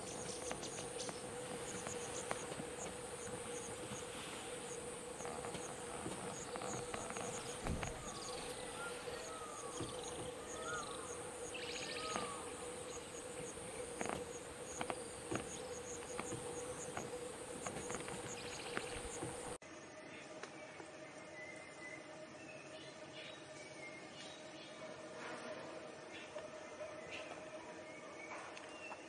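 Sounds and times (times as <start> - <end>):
insects chirping rapidly: 0.0 - 24.8
insects buzzing: 0.0 - 29.0
steady hum: 0.0 - 29.0.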